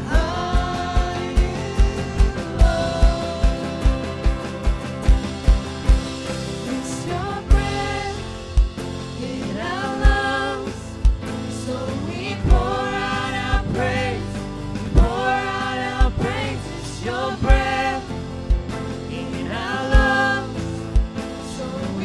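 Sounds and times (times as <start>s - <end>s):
low drum beat: 0.0s - 21.7s
bass guitar: 0.0s - 22.0s
electric guitar: 0.0s - 22.0s
people singing: 0.0s - 22.0s.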